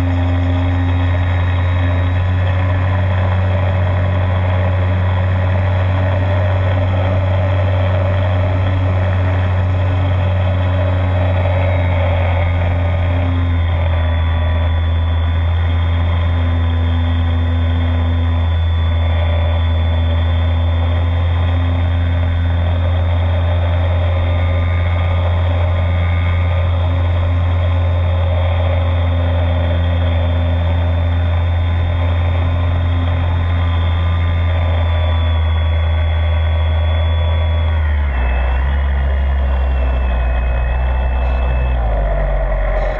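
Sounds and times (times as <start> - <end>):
electric motor and propeller drone: 0.0 - 42.9.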